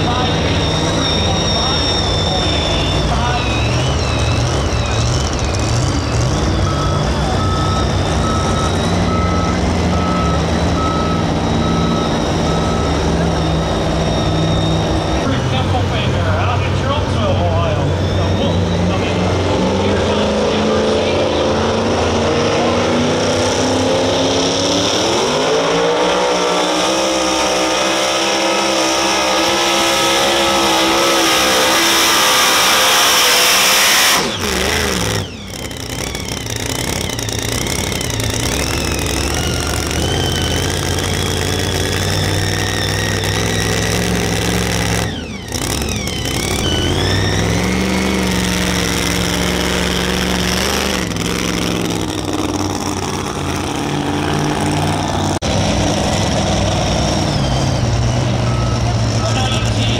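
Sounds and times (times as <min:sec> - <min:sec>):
engine running steadily: 0:00.0 - 0:25.0, 0:32.8 - 0:59.9
truck engine at full throttle: 0:00.0 - 0:59.9.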